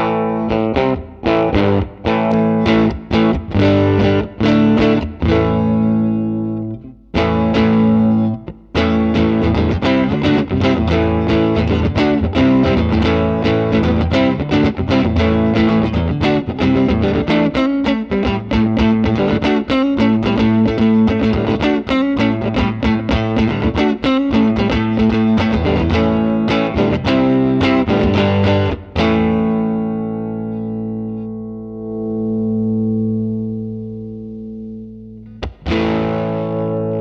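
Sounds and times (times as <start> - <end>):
distorted electric guitar: 0.0 - 37.0.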